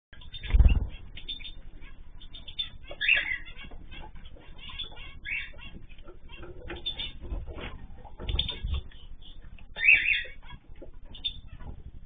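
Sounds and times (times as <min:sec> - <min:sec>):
cage birds chirping: 0:00.2 - 0:12.0.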